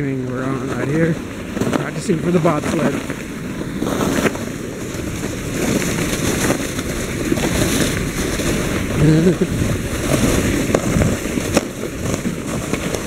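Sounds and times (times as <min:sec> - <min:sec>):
sled scraping over snow: 0:00.0 - 0:13.0.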